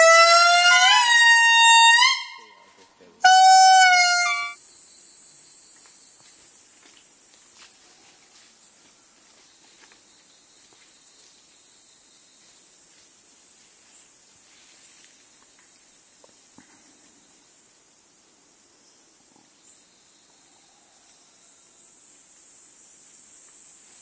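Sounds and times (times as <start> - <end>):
steady high-pitched hiss: 1.7 - 24.0.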